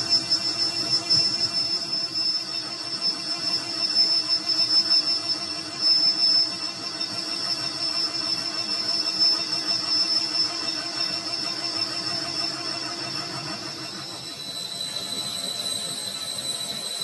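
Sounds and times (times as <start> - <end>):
lathe running with high whine: 0.0 - 17.0.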